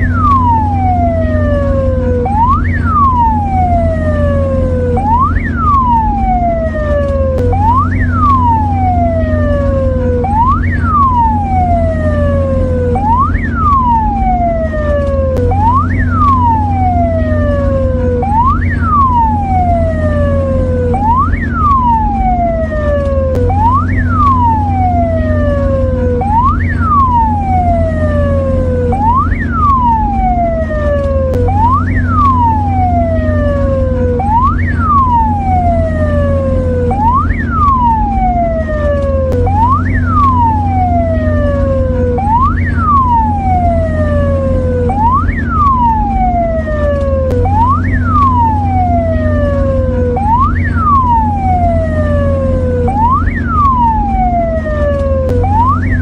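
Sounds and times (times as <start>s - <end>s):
ambulance siren whooping: 0.0s - 56.0s
steady low hum: 0.0s - 56.0s.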